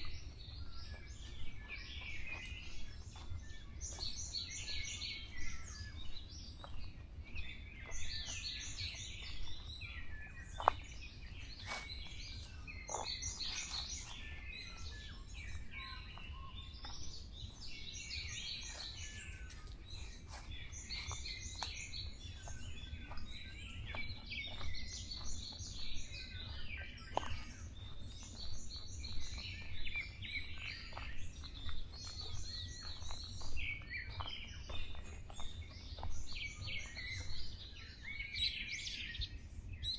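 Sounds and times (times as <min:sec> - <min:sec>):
songbirds calling: 0:00.0 - 0:39.9.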